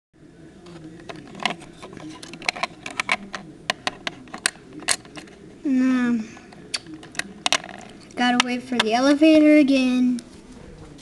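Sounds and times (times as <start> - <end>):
faint background voices: 0.2 - 11.0.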